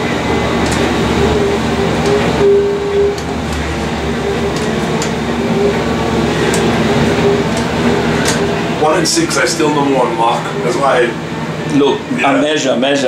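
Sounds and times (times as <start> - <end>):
crane hoist machinery hum: 0.0 - 13.0
whining motor: 0.0 - 13.0.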